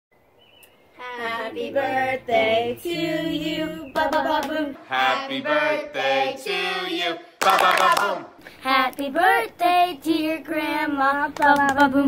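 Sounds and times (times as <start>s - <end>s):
women and children singing: 1.0s - 12.0s.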